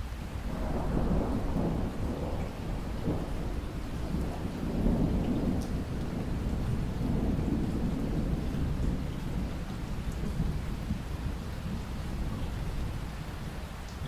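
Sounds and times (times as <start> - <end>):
steady rain: 0.0 - 14.0
rolling thunder: 0.4 - 13.6.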